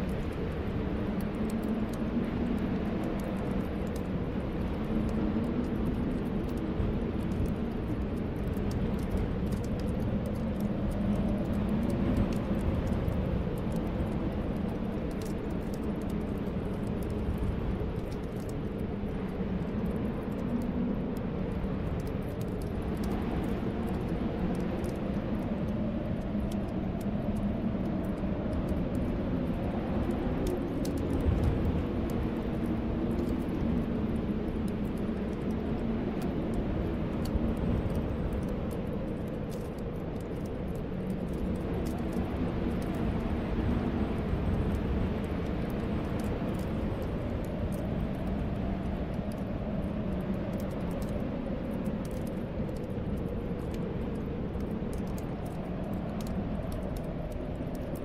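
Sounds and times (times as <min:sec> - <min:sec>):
wind howling: 0:00.0 - 0:58.0.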